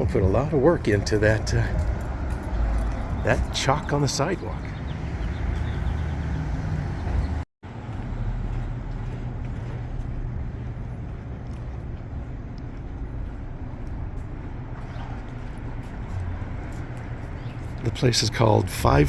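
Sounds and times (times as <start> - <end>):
passing cars: 0.0 - 19.0.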